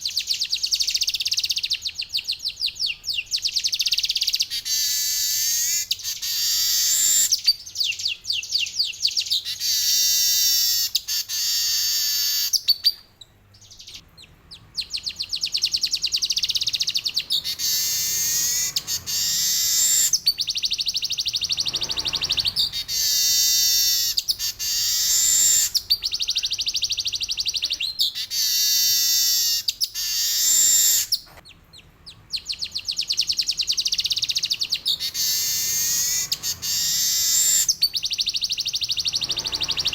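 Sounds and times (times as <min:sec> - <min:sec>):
bird singing rolling high phrases: 0:00.0 - 0:39.9.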